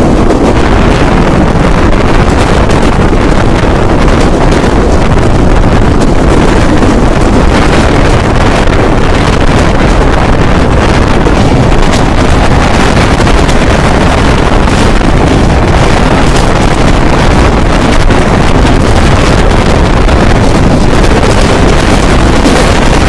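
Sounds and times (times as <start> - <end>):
train rumbling at speed: 0.0 - 23.0
wind buffeting microphone: 0.0 - 23.0.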